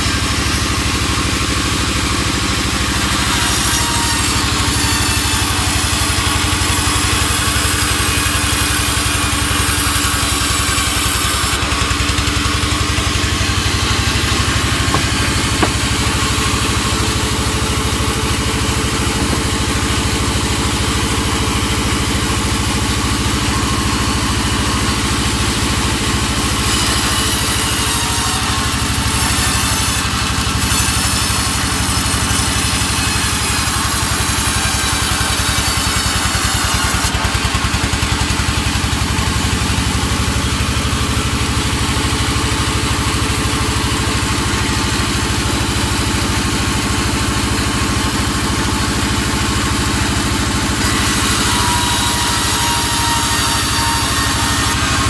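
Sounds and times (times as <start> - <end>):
band sawmill humming: 0.0 - 55.0
saw blade cutting log: 0.0 - 55.0.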